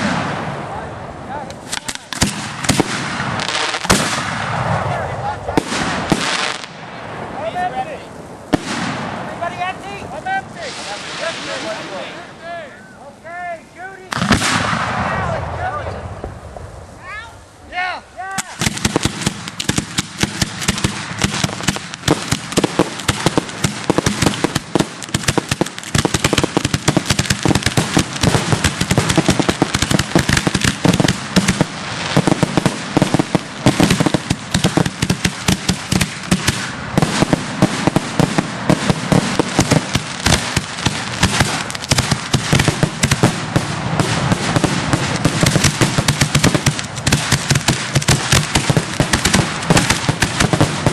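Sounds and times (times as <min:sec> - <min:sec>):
fireworks bangs and crackling: 0:00.0 - 0:12.6, 0:14.0 - 0:50.9.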